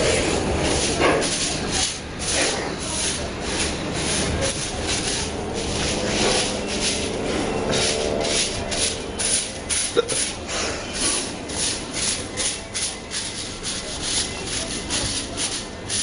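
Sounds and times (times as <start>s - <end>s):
broom sweeping concrete floor: 0.0s - 16.0s.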